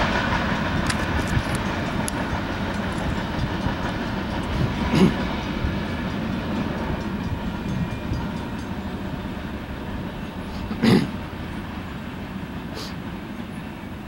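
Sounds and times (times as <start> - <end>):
train wheels clacking on rails: 0.0 - 14.0.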